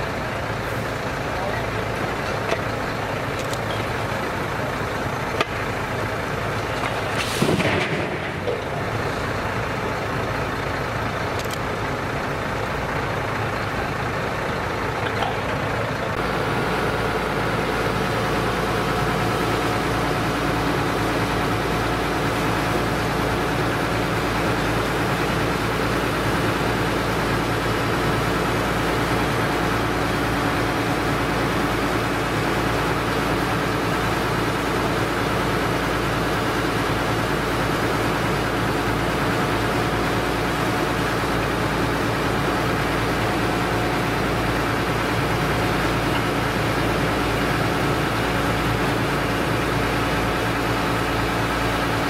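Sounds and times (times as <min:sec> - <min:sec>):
diesel truck engines running: 0:00.0 - 0:52.0.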